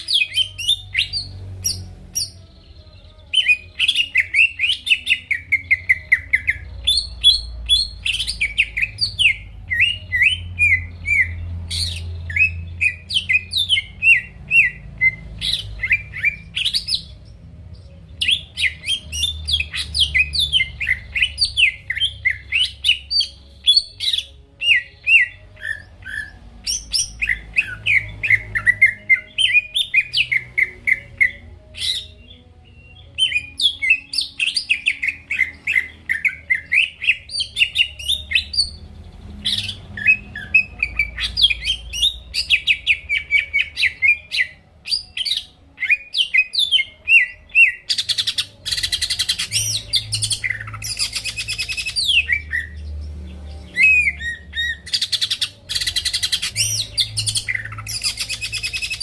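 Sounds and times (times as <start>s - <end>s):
bird singing chirping notes: 0.0s - 59.0s.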